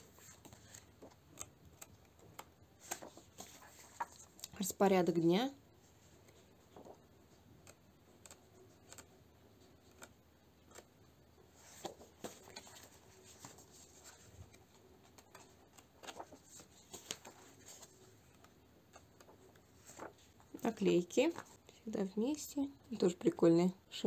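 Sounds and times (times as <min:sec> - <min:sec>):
paper rustling: 0:00.0 - 0:04.5, 0:06.0 - 0:21.6.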